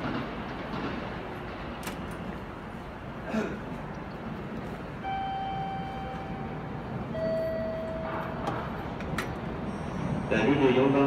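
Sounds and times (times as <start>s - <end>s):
station platform hum: 0.0s - 11.0s.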